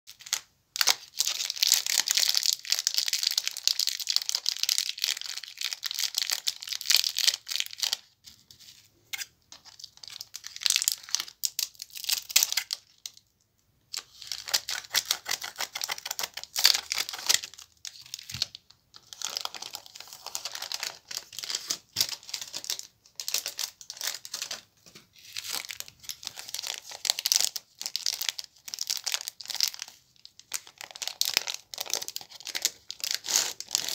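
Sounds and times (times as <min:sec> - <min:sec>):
plastic wrappers crinkling: 0:00.1 - 0:13.4, 0:14.0 - 0:33.9.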